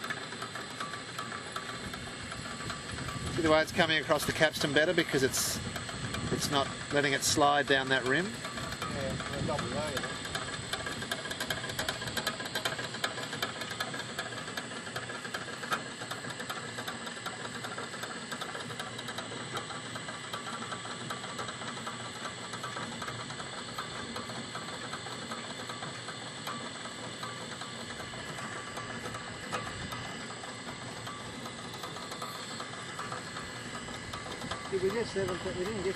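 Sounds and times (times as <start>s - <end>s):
winch running with ticking gears: 0.0s - 35.9s.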